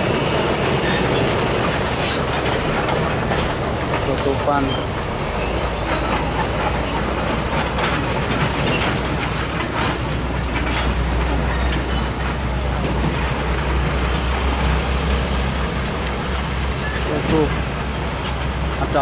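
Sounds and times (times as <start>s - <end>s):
diesel trucks passing: 0.0s - 19.0s
tyre and road noise: 0.0s - 19.0s.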